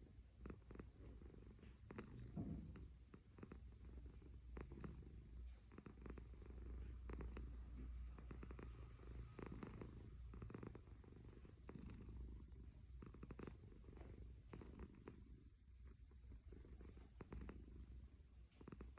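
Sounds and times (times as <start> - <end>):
cat snoring: 0.0 - 18.9.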